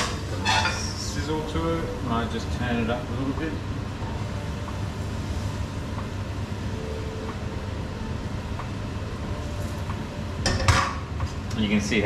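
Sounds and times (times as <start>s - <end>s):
extractor fan running: 0.0s - 12.0s.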